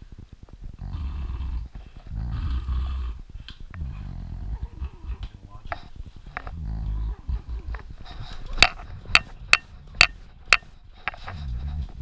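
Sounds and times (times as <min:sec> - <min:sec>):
dog snuffling: 0:00.6 - 0:12.0.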